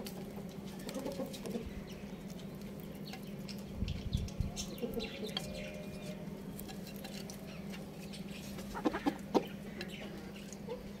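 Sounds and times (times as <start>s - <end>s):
chickens clucking: 0.0s - 2.3s, 4.2s - 11.0s.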